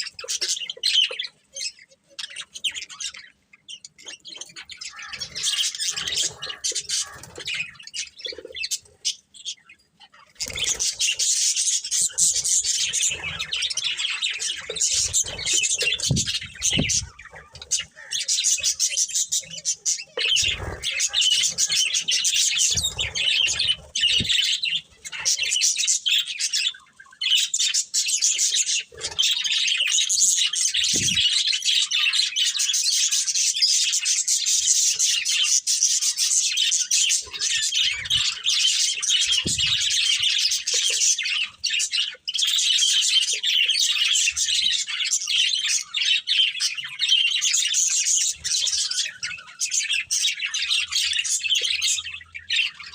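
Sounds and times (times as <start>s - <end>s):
budgerigars chirping: 0.0s - 52.9s.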